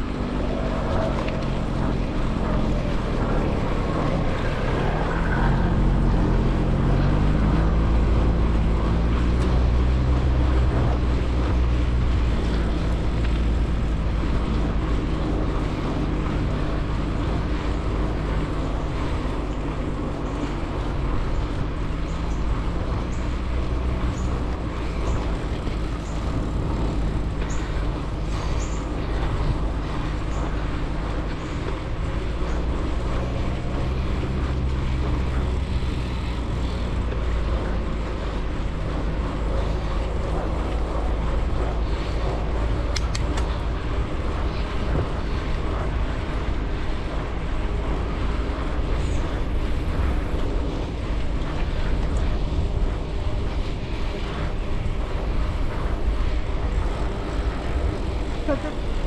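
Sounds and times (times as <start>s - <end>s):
pitched tyre hum: 0.0s - 59.0s
wind and tyre rumble: 0.0s - 59.0s.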